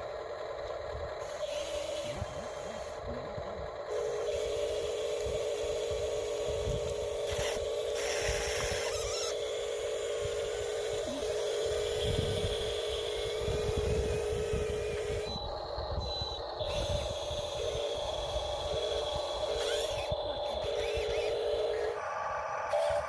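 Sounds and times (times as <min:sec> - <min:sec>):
small electric motor whining: 0:01.2 - 0:23.0.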